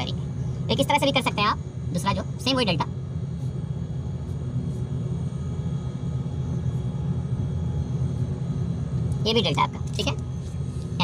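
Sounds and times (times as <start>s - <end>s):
faint steady hum: 0.0s - 11.0s
steady low rumble: 0.0s - 11.0s.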